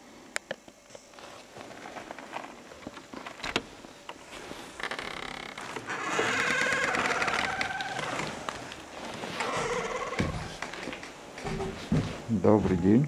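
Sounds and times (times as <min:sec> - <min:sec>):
wooden creaking: 0:01.7 - 0:13.0.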